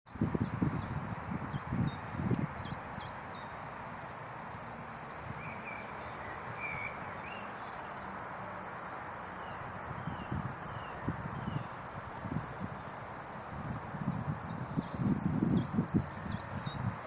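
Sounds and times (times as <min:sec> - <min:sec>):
insects trilling: 0:00.2 - 0:17.0.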